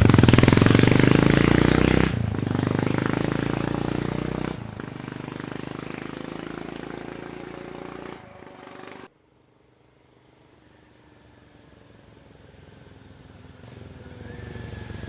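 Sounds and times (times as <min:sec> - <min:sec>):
single-cylinder motorcycle engine running: 0:00.0 - 0:09.1, 0:11.2 - 0:15.0.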